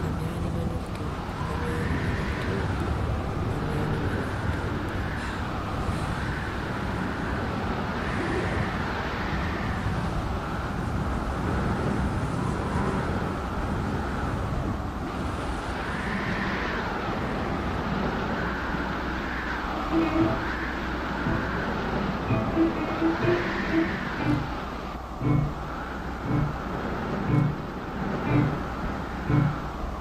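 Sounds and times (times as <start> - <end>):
wind blowing in gusts: 0.0 - 30.0.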